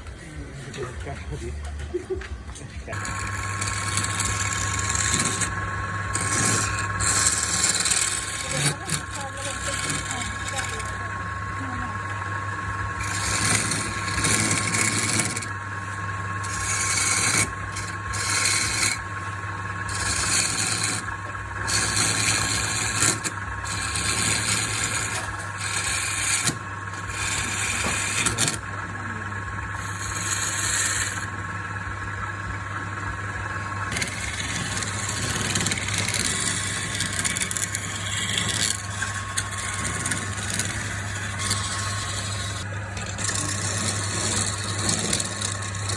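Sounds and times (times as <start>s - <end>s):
motor humming: 0.0s - 45.9s
power tool rasping wood: 2.9s - 45.9s.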